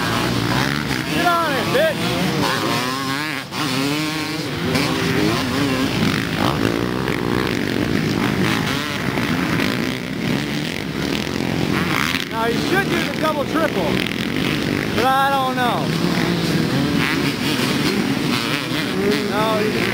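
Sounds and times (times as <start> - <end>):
motocross bike engines revving: 0.0 - 19.9.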